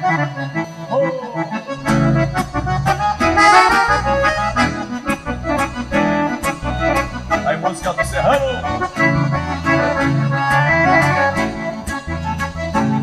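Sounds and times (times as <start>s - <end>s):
bass line: 0.0s - 13.0s
piano accordions playing: 0.0s - 13.0s.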